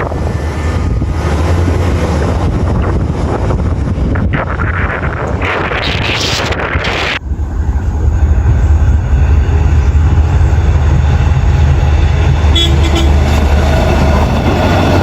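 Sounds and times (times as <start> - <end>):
diesel train engine rumble: 0.0 - 15.0.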